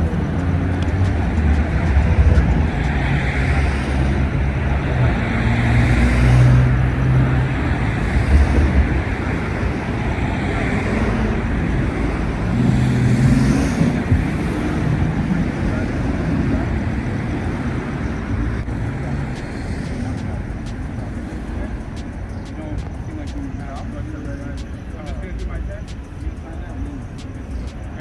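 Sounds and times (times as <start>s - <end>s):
traffic hum: 0.0s - 28.0s
vehicles passing: 0.0s - 28.0s.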